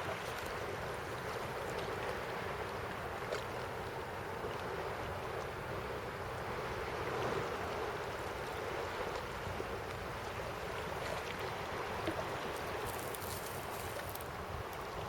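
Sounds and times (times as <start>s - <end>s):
sea waves lapping at shore: 0.0s - 15.0s.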